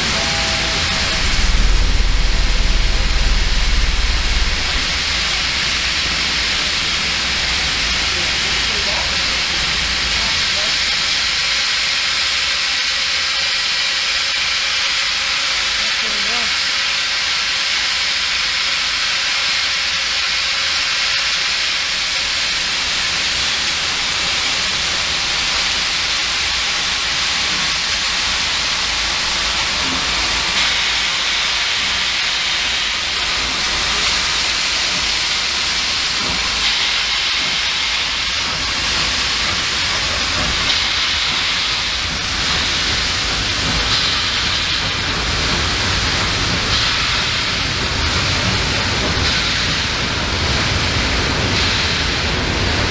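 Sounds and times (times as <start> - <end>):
steam hissing: 0.0 - 52.9.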